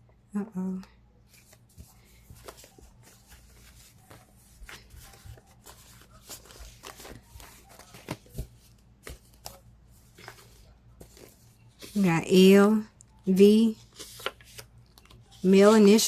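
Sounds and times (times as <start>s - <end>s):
cards being shuffled: 1.4s - 12.1s, 13.8s - 16.0s.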